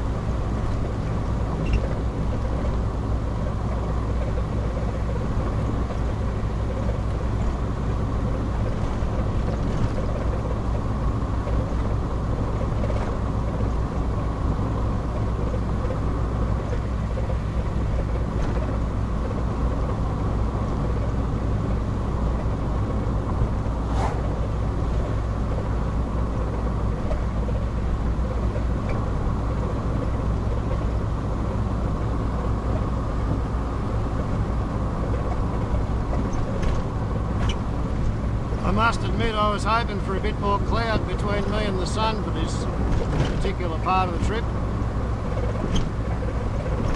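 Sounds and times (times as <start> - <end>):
car engine and tyre drone: 0.0 - 46.9.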